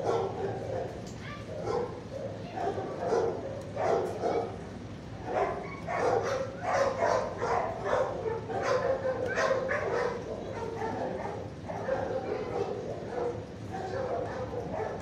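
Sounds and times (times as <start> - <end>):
dogs barking and yipping: 0.0 - 4.6, 5.2 - 15.0.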